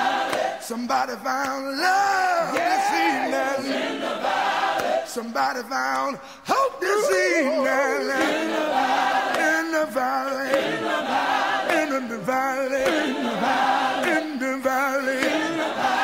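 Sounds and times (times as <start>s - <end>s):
choir singing: 0.0s - 0.8s, 2.1s - 5.3s, 6.9s - 16.0s.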